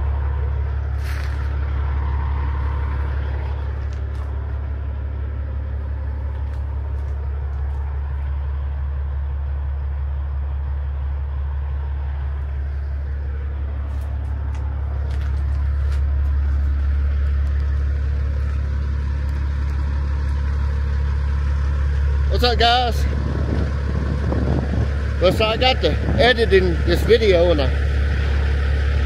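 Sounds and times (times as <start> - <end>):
truck engine and road drone: 0.0 - 29.0.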